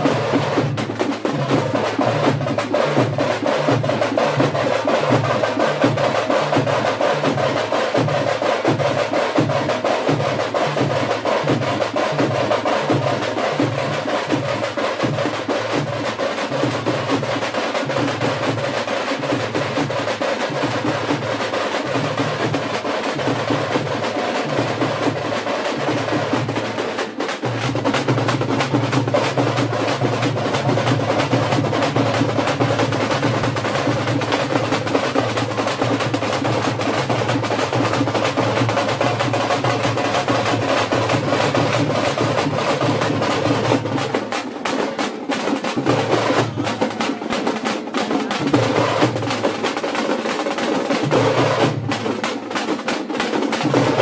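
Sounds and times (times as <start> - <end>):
barrel drums: 0.0 - 54.0
frame drums beaten with sticks: 0.0 - 54.0.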